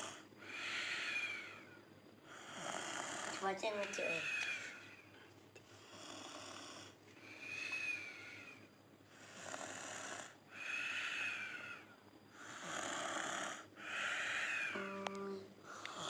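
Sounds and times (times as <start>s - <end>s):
child snoring with whistling breath: 0.0s - 1.7s, 2.4s - 4.9s, 5.9s - 15.0s.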